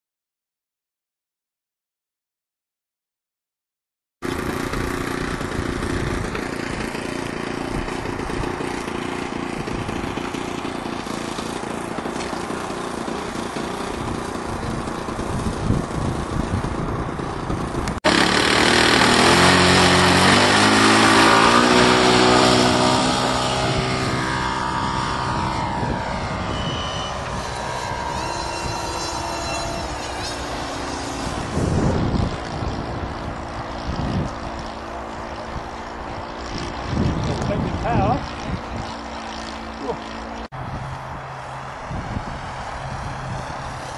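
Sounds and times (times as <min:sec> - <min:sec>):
model airplane engine running: 0:04.2 - 0:43.9.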